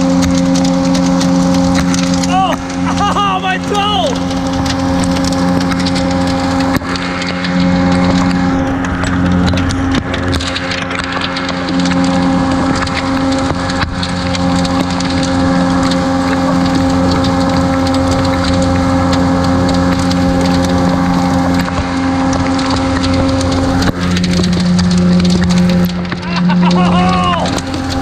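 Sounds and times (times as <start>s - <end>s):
hailstones pelting down: 0.0s - 28.0s
low hum: 0.0s - 28.0s.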